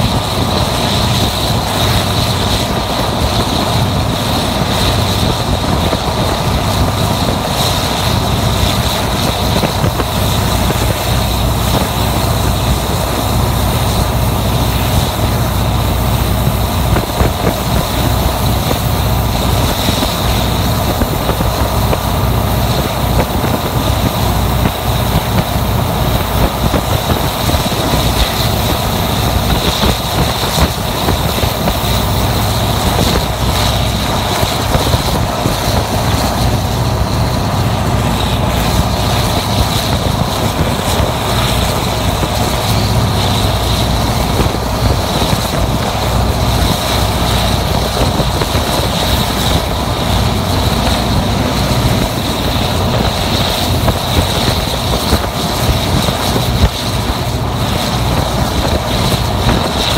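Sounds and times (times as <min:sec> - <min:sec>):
diesel locomotive engine drone: 0:00.0 - 0:59.9
high whine: 0:00.0 - 0:59.9.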